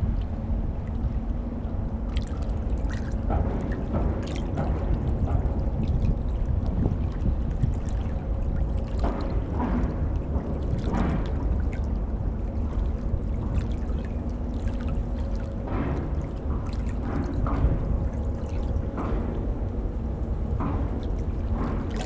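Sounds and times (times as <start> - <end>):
ship engine rumble and hum: 0.0 - 22.0
water sloshing and splashing: 0.0 - 22.0.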